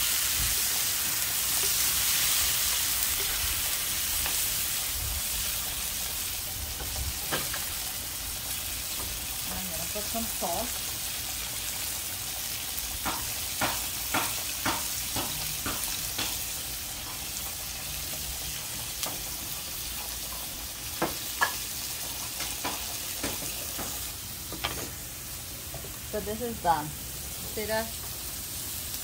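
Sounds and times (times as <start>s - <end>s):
vegetables sizzling in frying pan: 0.0s - 29.0s.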